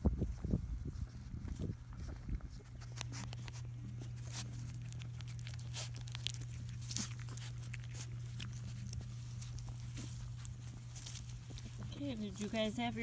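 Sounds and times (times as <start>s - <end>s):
low hum: 0.0s - 13.0s
puppies' mouths smacking and clicking: 2.0s - 12.6s.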